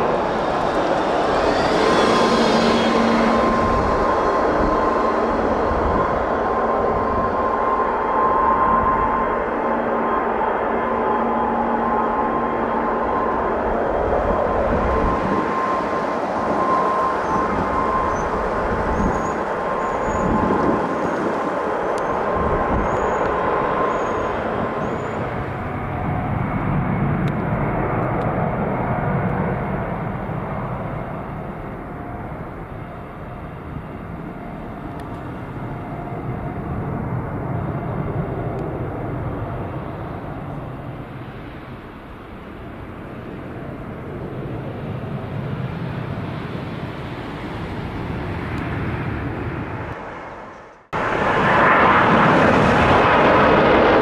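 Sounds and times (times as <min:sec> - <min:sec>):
high engine whine: 0:00.0 - 0:54.0
jet engines roaring: 0:00.0 - 0:54.0.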